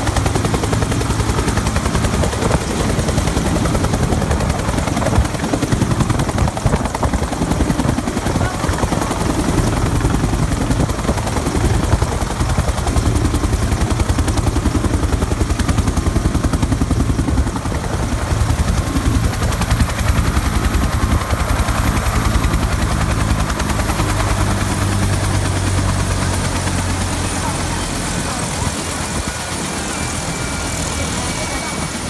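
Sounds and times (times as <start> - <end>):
helicopter rotor beating: 0.0 - 32.0.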